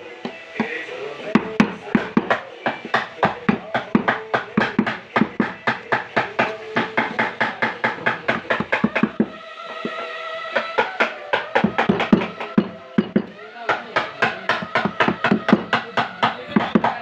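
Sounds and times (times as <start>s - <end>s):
rapid sharp knocking: 1.4s - 10.0s, 10.6s - 17.0s.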